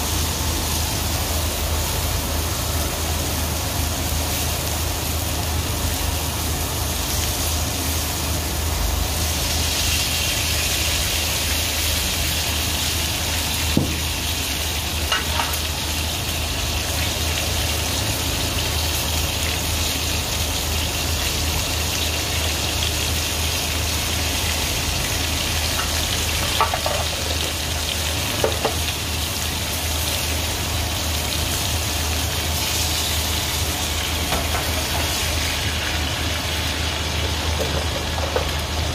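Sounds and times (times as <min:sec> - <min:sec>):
steak sizzling in frying pan: 0:00.0 - 0:38.9.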